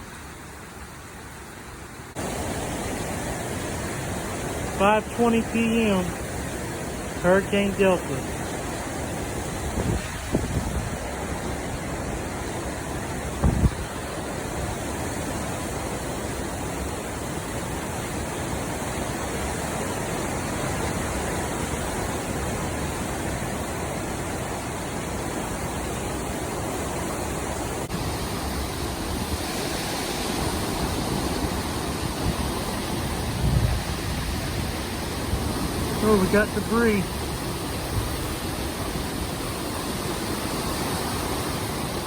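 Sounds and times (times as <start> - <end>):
heavy rain: 0.0 - 42.0
hurricane wind: 0.0 - 42.0.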